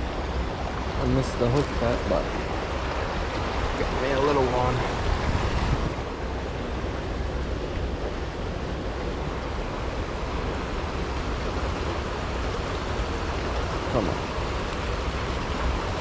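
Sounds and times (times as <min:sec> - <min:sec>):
river flowing: 0:00.0 - 0:16.0
wind buffeting microphone: 0:00.0 - 0:16.0.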